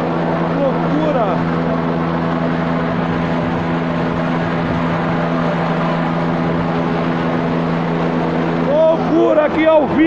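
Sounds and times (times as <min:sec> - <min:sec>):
helicopter hovering drone: 0:00.0 - 0:10.0.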